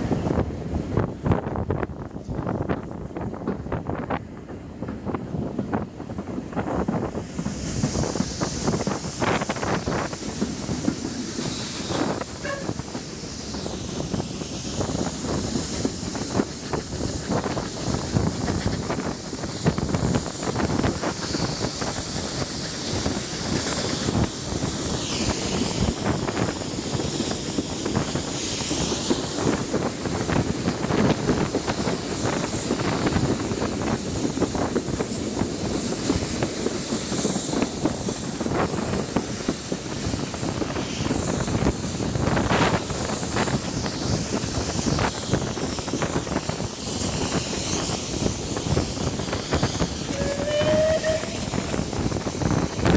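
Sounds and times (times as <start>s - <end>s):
steam hiss: 0.0s - 52.9s
train wheels clattering on track: 0.0s - 52.9s.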